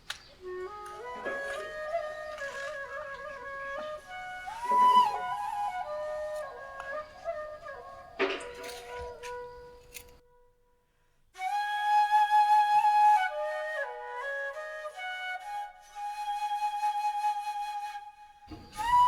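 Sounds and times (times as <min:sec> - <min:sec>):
flute melody: 0:00.4 - 0:10.6, 0:11.4 - 0:19.0.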